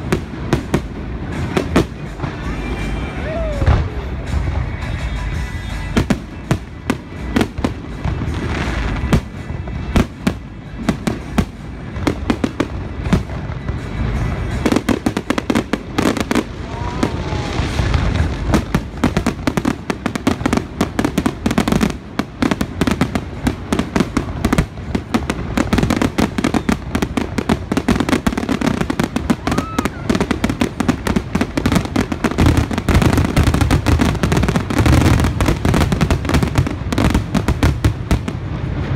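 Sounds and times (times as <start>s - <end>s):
firework crackles: 0.0s - 38.9s
fireworks bursting with bangs: 0.0s - 38.9s.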